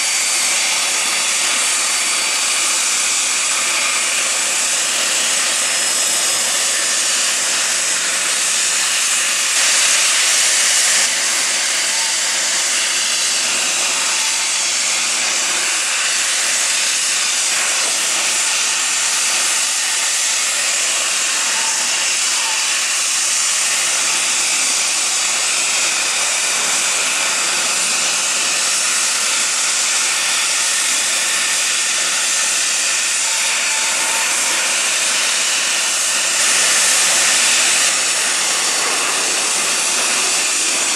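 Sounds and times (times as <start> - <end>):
jet turbine hiss and whine: 0.0 - 40.9.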